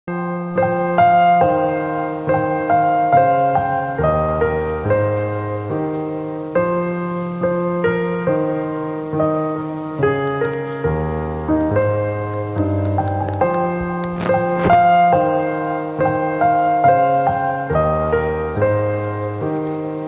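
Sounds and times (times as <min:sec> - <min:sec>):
gentle piano music: 0:00.1 - 0:20.0.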